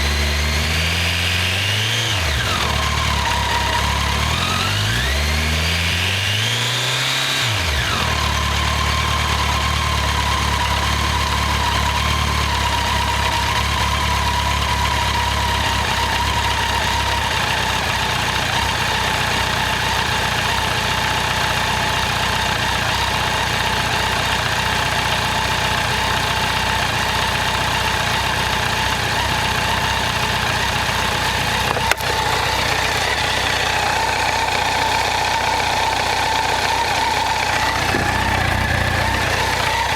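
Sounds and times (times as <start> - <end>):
motorcycle engine idling: 0.0 - 6.4, 7.5 - 39.9.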